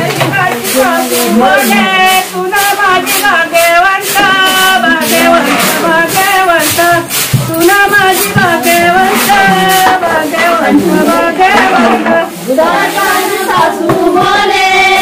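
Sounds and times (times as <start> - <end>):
person singing: 0.0 - 15.0
steady beat: 0.0 - 15.0.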